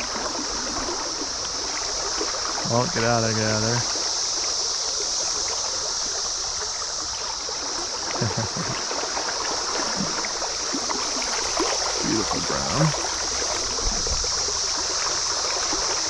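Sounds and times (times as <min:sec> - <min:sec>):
cicada chorus drone: 0:00.0 - 0:16.0
stream water flowing: 0:00.0 - 0:16.0.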